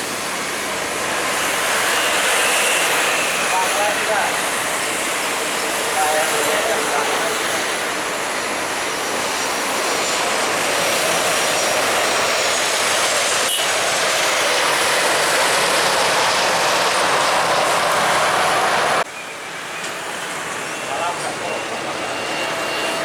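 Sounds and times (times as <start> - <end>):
jet airliner engines roaring: 0.0 - 23.0.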